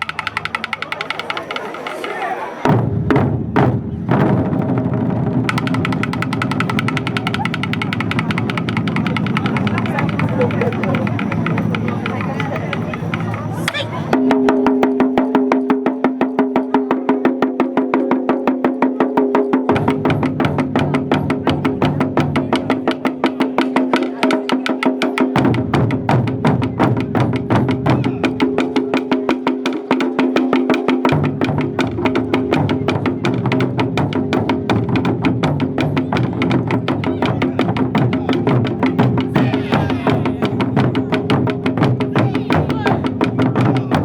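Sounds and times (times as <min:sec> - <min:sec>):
deeper drum layer: 0:00.0 - 0:44.0
taiko drums fast rhythm: 0:00.0 - 0:44.0.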